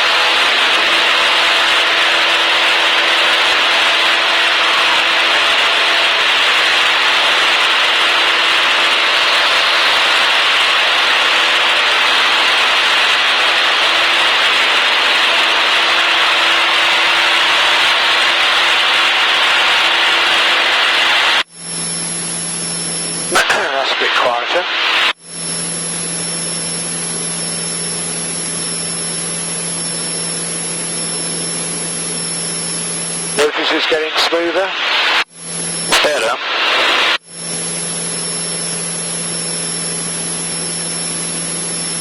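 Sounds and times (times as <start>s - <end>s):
airplane engine drone in cabin: 0.0s - 42.0s.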